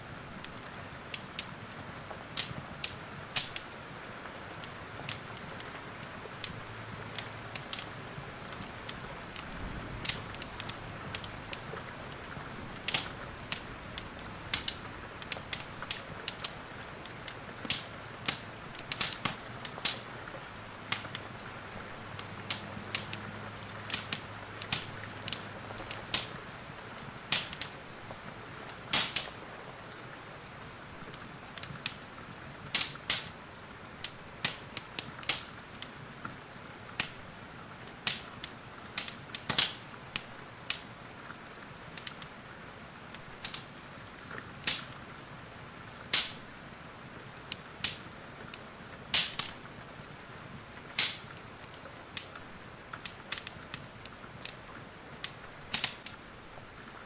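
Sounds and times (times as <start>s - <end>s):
rain hissing: 0.0s - 57.0s
wood fire crackling: 0.0s - 57.0s.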